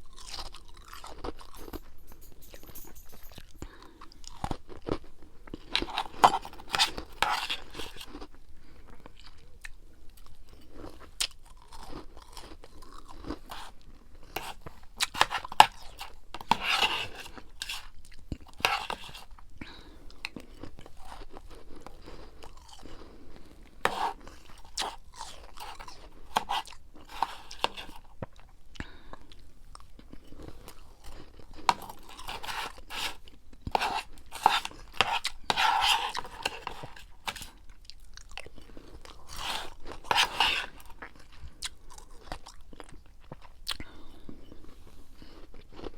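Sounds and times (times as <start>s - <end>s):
crunching and chewing frost: 0.0s - 1.8s, 3.6s - 45.9s.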